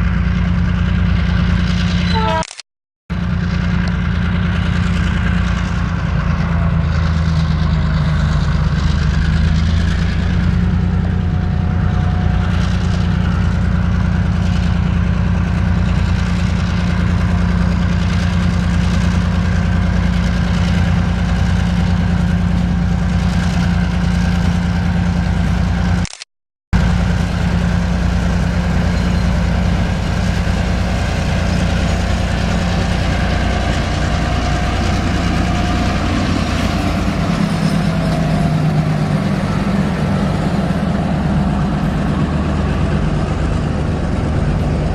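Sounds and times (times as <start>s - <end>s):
locomotive engine idling: 3.2s - 26.0s, 26.8s - 44.9s.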